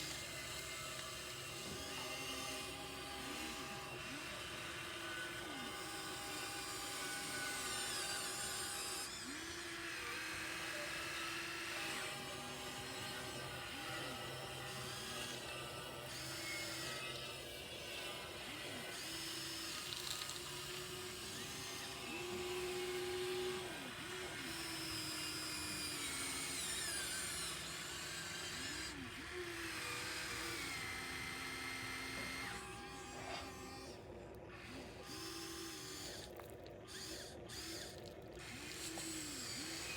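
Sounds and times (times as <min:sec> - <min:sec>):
small electric motors whining: 0:00.0 - 0:39.9.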